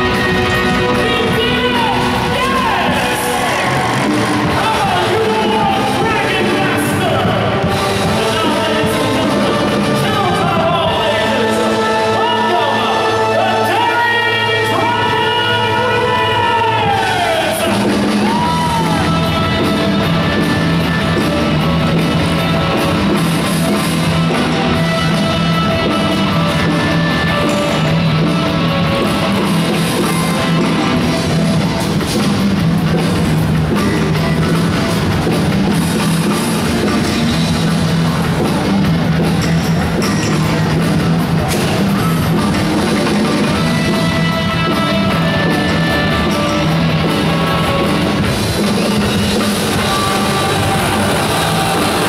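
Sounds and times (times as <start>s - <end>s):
heavy metal music over speakers: 0.0s - 52.0s.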